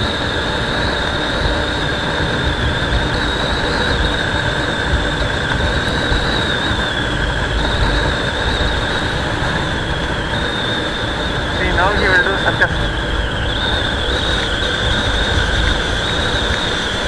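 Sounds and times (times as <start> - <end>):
motorcycle engine running: 0.0 - 17.0
steady high whistle: 0.0 - 17.0
wind buffeting the microphone: 0.0 - 17.0.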